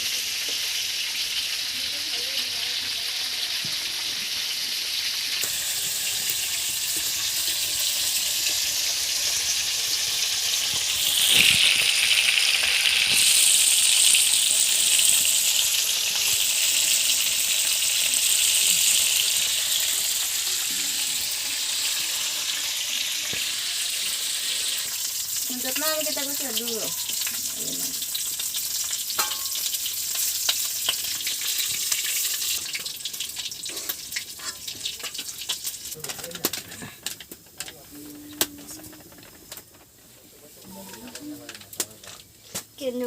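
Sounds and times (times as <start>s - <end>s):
fish sizzling in hot oil: 0.0s - 43.0s.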